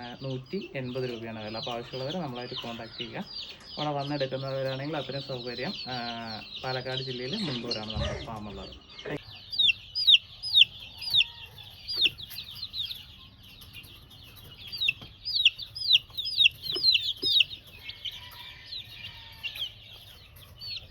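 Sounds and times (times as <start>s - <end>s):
chicks peeping: 0.0s - 20.9s.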